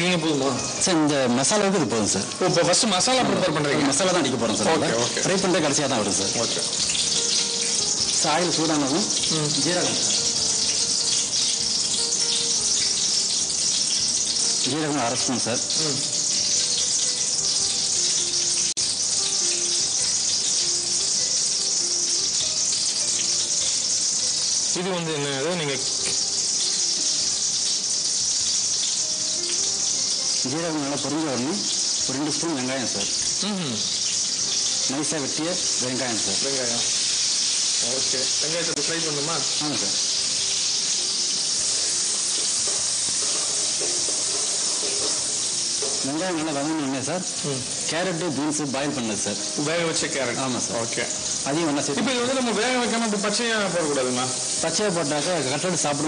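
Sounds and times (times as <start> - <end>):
seeds sizzling in hot oil: 0.0 - 56.0.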